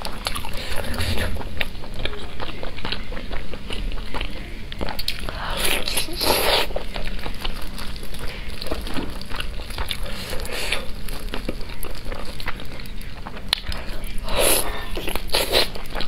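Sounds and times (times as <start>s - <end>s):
wet chewing: 0.0s - 16.0s.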